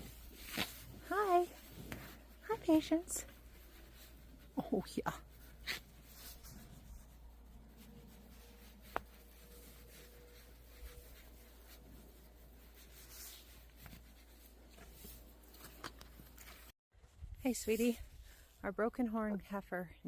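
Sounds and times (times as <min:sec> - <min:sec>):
faint rustles: 0:00.0 - 0:16.7.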